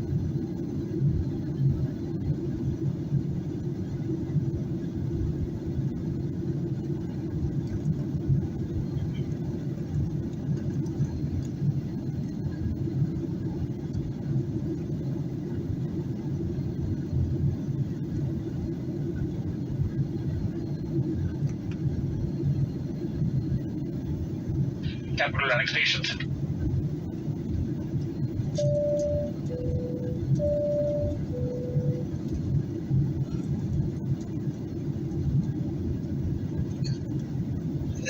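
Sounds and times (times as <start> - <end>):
airplane cabin rumble: 0.0 - 38.0.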